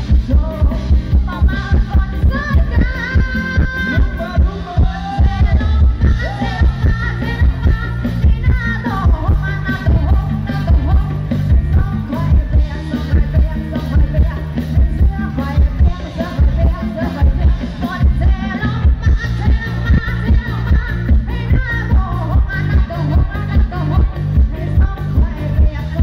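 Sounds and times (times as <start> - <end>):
live band with heavy bass beat: 0.0 - 26.0
woman singing into microphone: 0.0 - 26.0.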